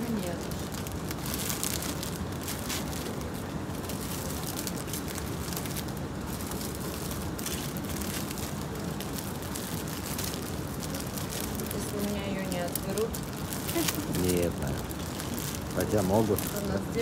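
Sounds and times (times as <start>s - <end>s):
plastic packaging crinkling: 0.0s - 17.0s
store background hum: 0.0s - 17.0s.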